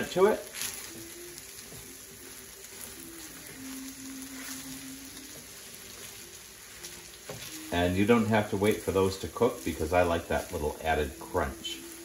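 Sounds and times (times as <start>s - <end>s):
rice sizzling in a skillet: 0.0s - 12.0s
spatula stirring in a skillet: 0.0s - 12.0s.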